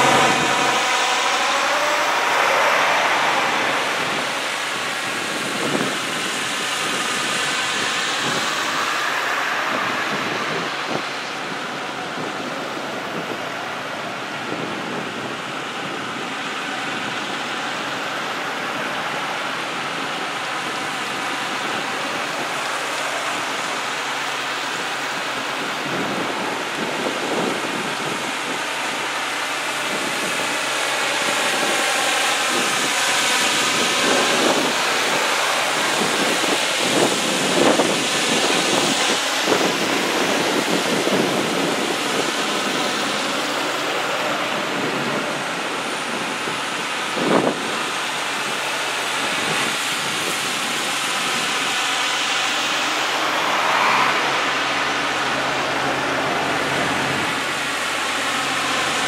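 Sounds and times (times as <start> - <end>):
heavy trucks driving past: 0.0 - 59.0.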